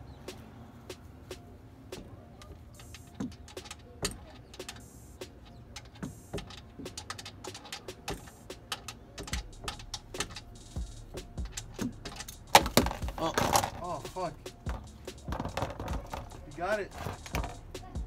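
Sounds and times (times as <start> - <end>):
ratchet wrench clicking: 2.4 - 17.8
fast ratcheting: 2.7 - 18.0.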